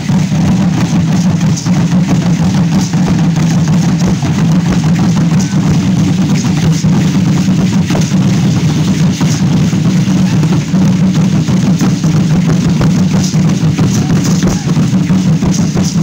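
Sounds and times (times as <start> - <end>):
fast wooden drums drumming: 0.0 - 16.0.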